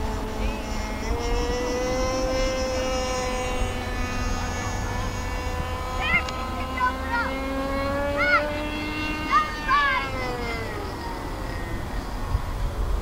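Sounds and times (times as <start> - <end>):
whining engine drone: 0.0 - 13.0.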